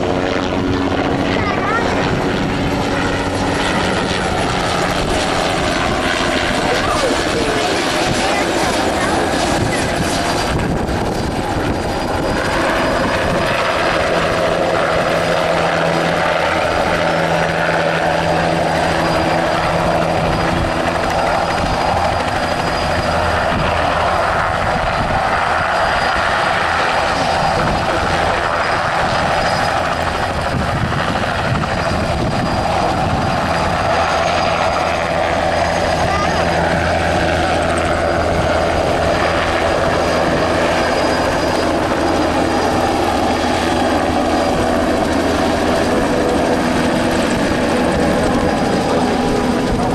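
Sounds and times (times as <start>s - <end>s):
helicopter rotor chopping: 0.0s - 49.9s
turbine engine whine: 0.0s - 49.9s.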